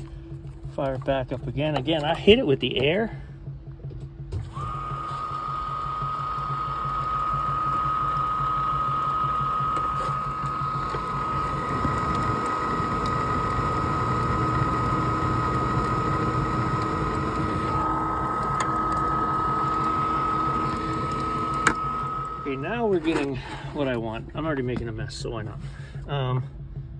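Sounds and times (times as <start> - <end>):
furnace motor whine: 0.0 - 26.9
low hum: 0.0 - 26.9.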